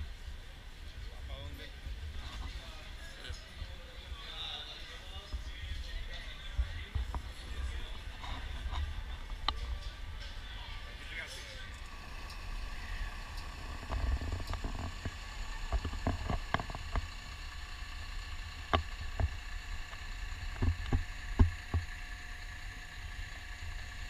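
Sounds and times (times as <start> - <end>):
bus rumbling: 0.0 - 24.0.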